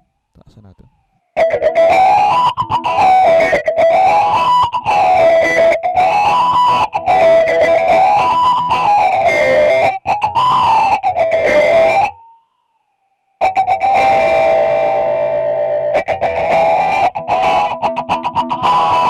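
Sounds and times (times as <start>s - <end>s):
electric guitar with filter sweep: 0.8s - 19.0s.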